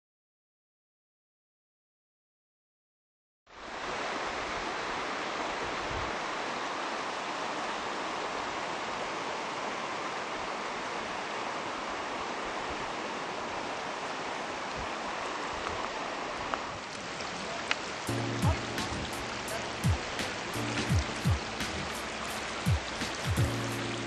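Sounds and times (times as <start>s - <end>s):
river water flowing: 3.5s - 24.0s.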